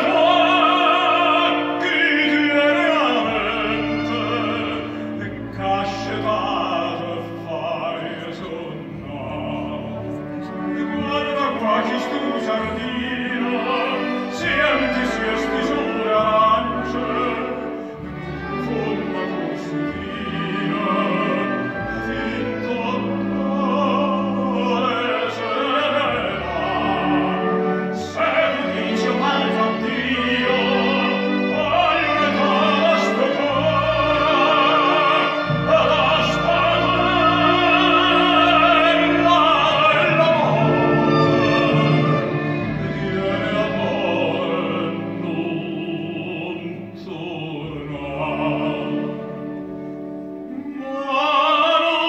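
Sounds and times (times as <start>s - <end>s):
operatic tenor singing: 0.0s - 52.0s
symphony orchestra with strings: 0.0s - 52.0s.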